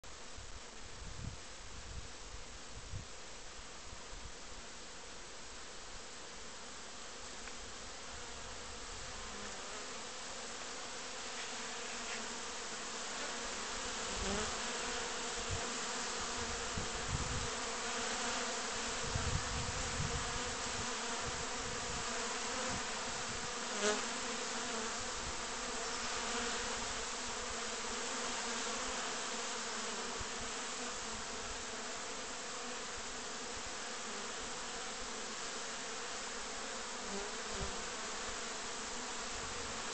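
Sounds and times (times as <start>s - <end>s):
bee buzzing past close: 7.3s - 39.9s
bees buzzing: 7.4s - 39.9s.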